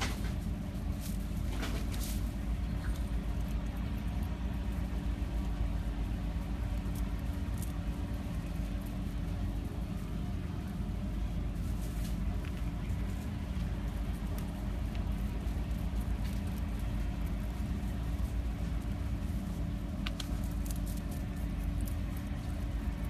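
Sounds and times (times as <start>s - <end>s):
rabbit chewing twig: 0.0s - 23.0s
steady low rumble: 0.0s - 23.0s.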